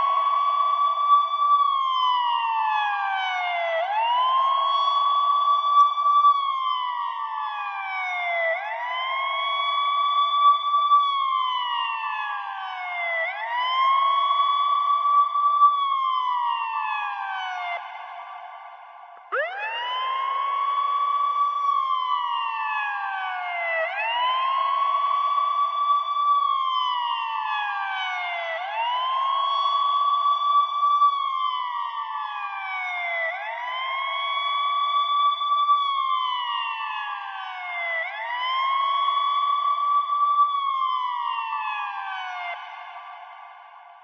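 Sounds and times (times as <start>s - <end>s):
ambulance siren wailing: 0.0s - 18.6s, 19.2s - 44.0s.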